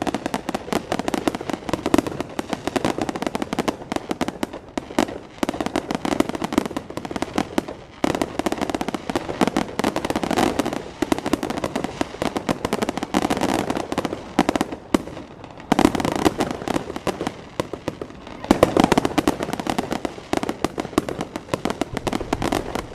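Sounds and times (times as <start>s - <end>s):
fireworks bangs and cracks: 0.0s - 22.9s.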